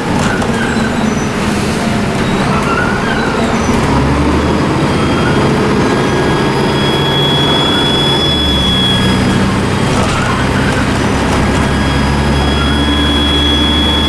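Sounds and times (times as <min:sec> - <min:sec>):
bus diesel engine running: 0:00.0 - 0:14.0
turbocharger whistle: 0:00.2 - 0:14.0.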